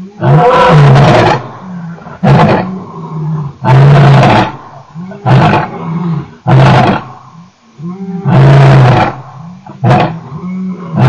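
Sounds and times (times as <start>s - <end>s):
lion roaring: 0.2s - 7.1s, 7.8s - 11.0s.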